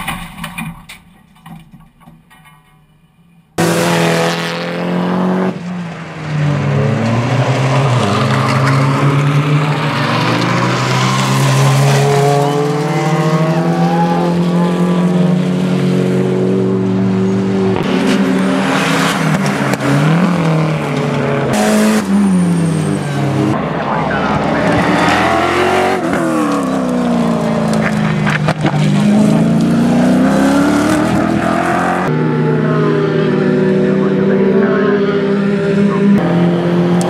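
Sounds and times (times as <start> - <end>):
racing car engines: 3.6 - 37.0.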